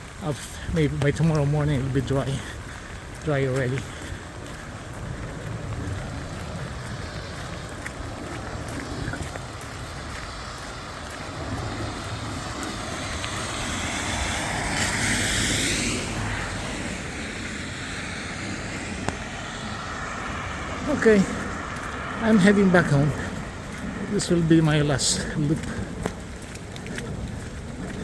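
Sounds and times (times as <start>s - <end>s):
car tyres hissing on wet road: 0.0s - 28.0s
low rumble: 0.0s - 28.0s.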